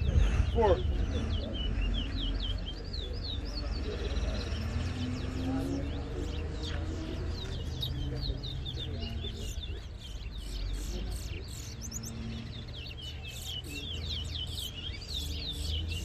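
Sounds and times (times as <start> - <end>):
finch chirping song: 0.0 - 16.0.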